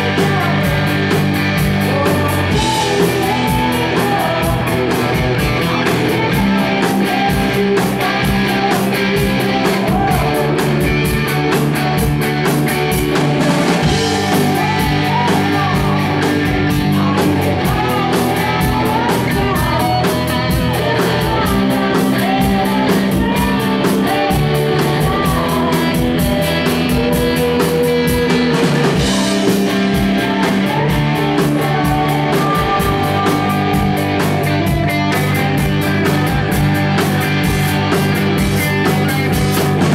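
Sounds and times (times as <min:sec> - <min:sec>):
woman singing: 0:00.0 - 0:11.0, 0:13.7 - 0:36.7
drum kit beat: 0:00.0 - 0:39.9
electric guitar: 0:00.0 - 0:39.9
keyboard: 0:00.0 - 0:39.9.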